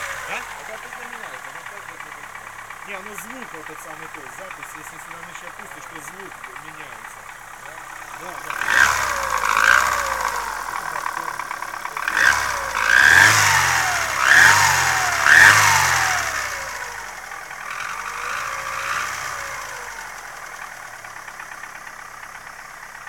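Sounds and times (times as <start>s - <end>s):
car engine revving: 0.0s - 23.0s
engine knock with whistle: 0.0s - 23.0s.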